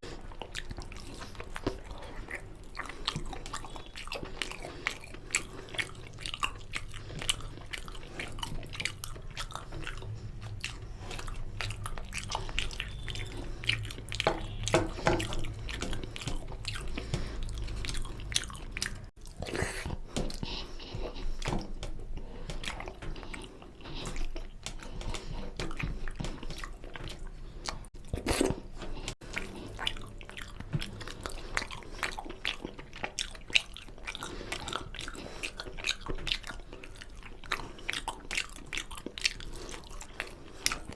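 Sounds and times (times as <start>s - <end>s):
chewing with wet smacks: 0.0s - 40.9s.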